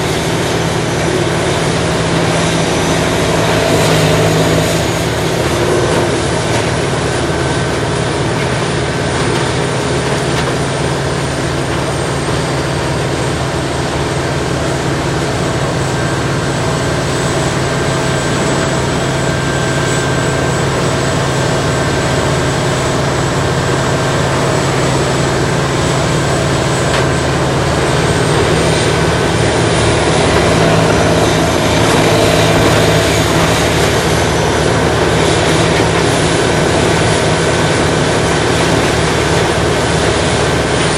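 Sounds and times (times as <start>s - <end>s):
grinder machine drone: 0.0s - 40.9s.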